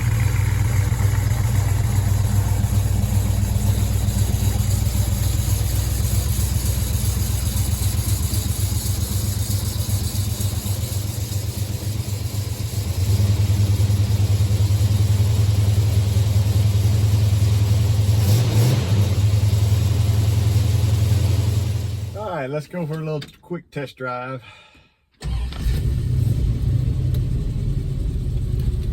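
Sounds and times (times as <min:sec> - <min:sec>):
car engine idling: 0:00.0 - 0:22.4, 0:25.2 - 0:28.9.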